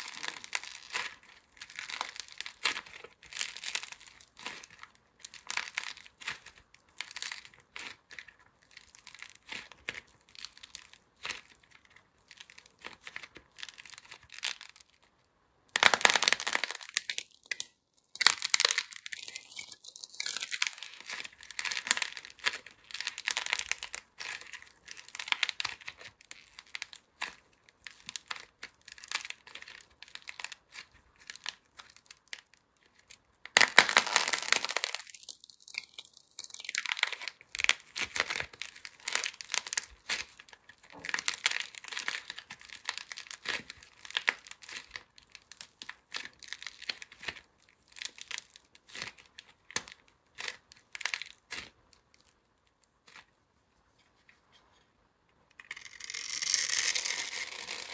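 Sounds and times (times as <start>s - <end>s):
dried clay cracking and crumbling: 0.0s - 15.1s, 15.8s - 53.3s.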